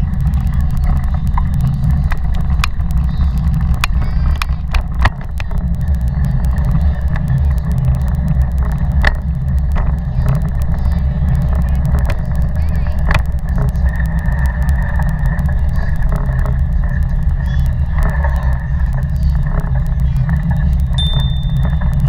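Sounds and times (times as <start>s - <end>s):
bike rolling rumble: 0.0s - 22.0s.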